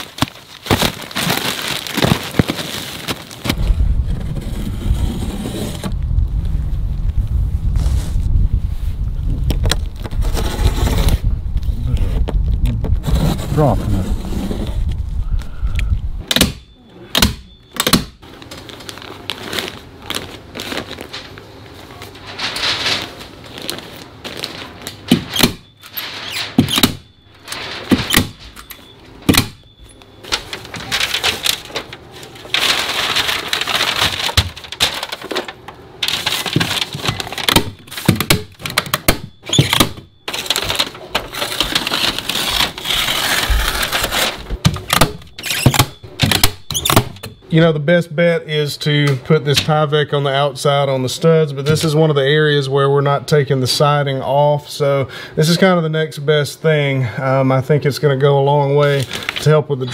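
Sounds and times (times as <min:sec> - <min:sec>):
house wrap crinkling: 0:00.0 - 0:15.3, 0:16.5 - 0:47.6, 0:58.2 - 0:59.9.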